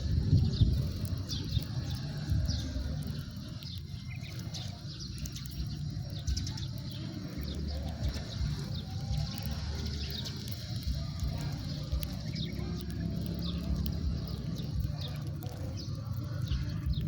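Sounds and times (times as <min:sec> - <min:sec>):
low rumble: 0:00.0 - 0:17.0
sparrows chirping: 0:00.0 - 0:17.0.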